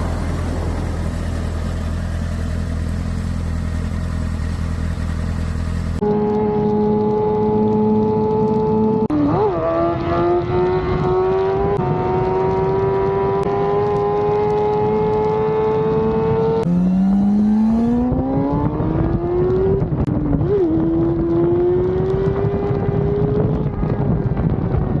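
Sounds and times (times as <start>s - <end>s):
motorcycle engine at high revs: 0.0s - 24.1s.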